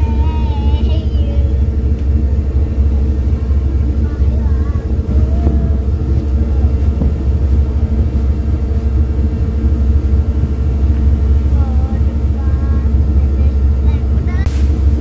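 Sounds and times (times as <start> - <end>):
constant hum: 0.0 - 15.0
ferry engines droning: 0.0 - 15.0.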